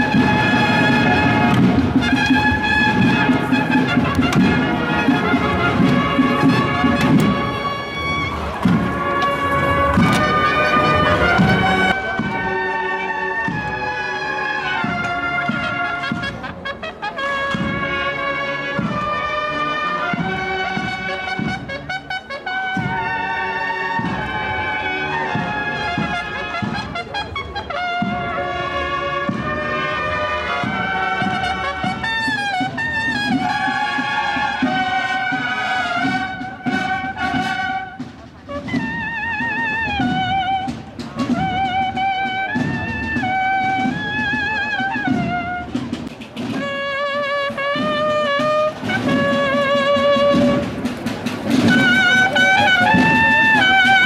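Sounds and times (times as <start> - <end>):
bugles playing melody: 0.0 - 54.0
steady drum beats: 0.0 - 54.0.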